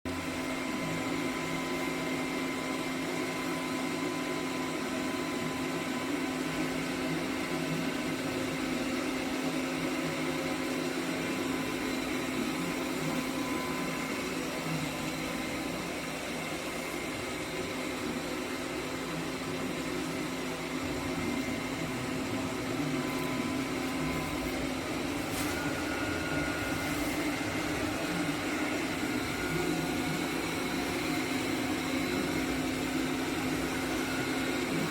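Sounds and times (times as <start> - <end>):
robot vacuum cleaner running: 0.1 - 34.9.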